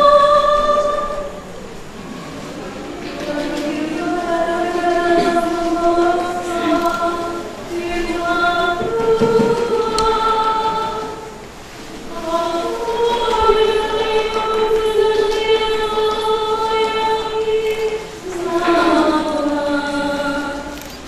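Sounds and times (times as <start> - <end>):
woman singing unaccompanied: 0.0 - 1.4, 3.1 - 11.4, 12.0 - 20.9.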